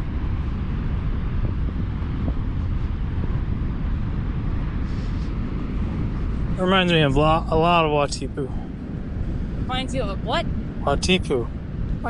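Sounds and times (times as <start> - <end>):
heavy surf rushing: 0.0 - 12.0
wind buffeting microphone: 0.0 - 12.0.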